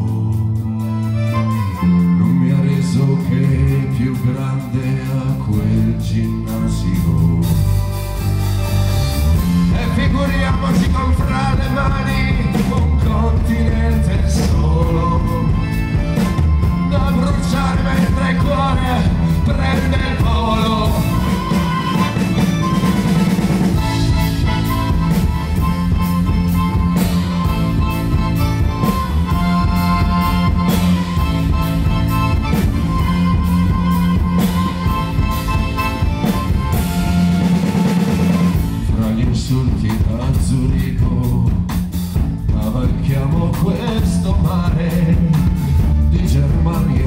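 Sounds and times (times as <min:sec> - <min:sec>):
accordion melody: 0:00.0 - 0:40.9, 0:41.7 - 0:47.0
electric bass: 0:00.0 - 0:47.0
drum kit beat: 0:06.3 - 0:47.0.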